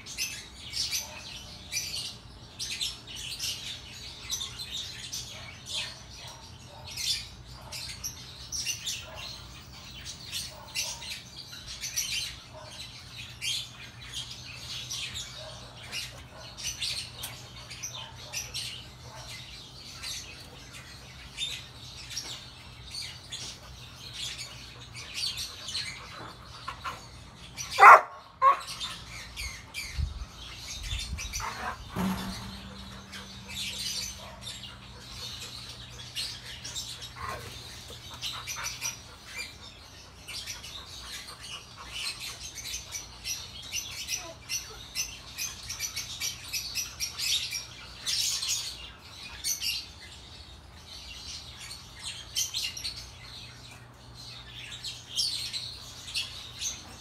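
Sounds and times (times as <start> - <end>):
sharp bird cry: 0.0 - 50.3
small birds chirping: 0.0 - 57.0.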